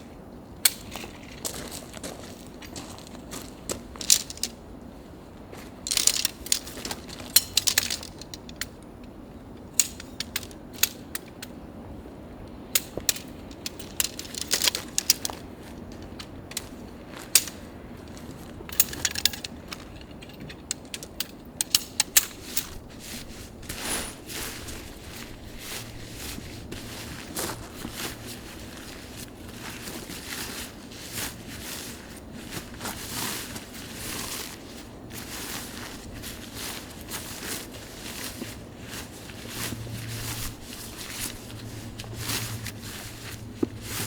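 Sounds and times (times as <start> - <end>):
camping gear clicks and knocks: 0.6 - 4.6, 5.5 - 11.6, 12.7 - 44.0
camping gear rustling: 0.8 - 8.9, 12.9 - 44.0.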